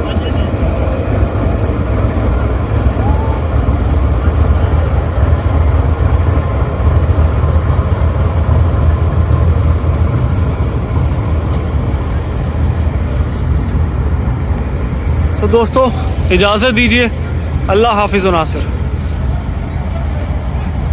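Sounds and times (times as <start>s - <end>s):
diesel locomotive idling: 0.0s - 20.9s.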